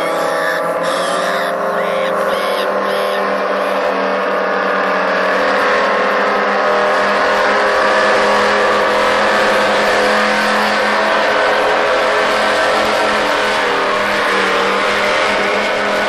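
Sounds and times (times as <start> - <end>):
racing boat engine: 0.0 - 16.0.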